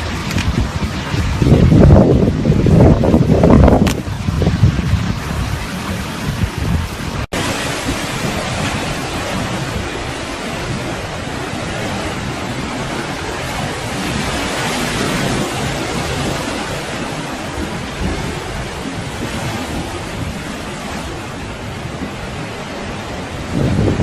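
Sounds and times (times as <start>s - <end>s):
surf: 0.0s - 24.0s
wind: 0.0s - 24.0s.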